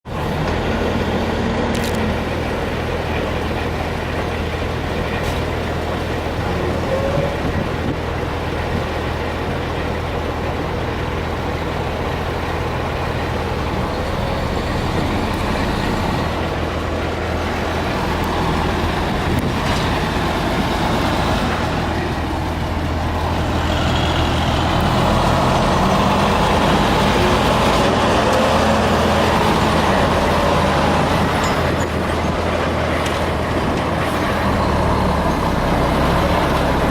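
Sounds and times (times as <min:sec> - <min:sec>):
diesel truck engines running: 0:00.0 - 0:36.9.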